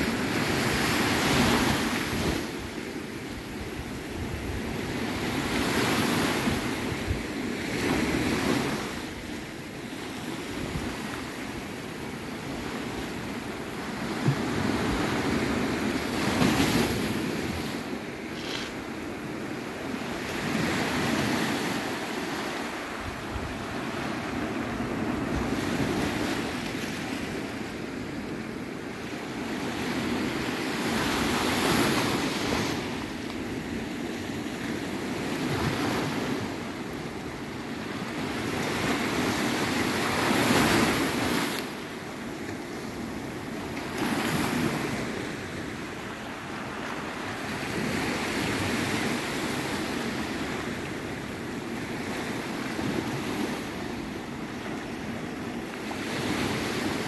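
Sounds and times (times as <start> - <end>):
small waves washing onto beach: 0.0 - 57.0.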